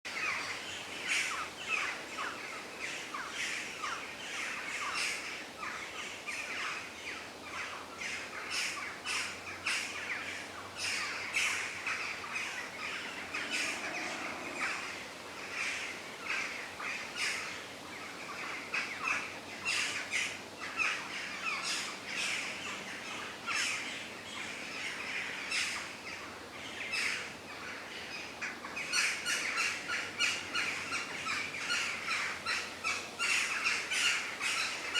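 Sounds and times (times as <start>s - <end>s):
birds chirping and trilling: 0.1s - 34.9s
faint background hiss: 0.1s - 34.9s.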